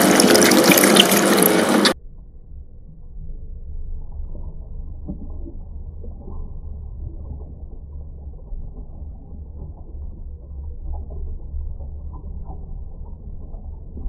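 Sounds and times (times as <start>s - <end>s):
shredder low rumble: 0.0s - 14.0s.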